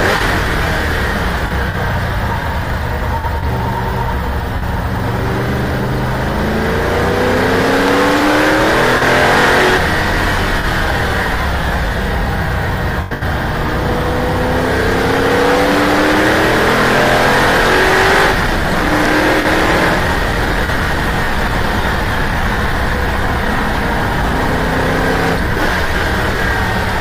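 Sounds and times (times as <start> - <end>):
racing car engine accelerating: 0.0 - 27.0
wind and road noise: 0.0 - 27.0.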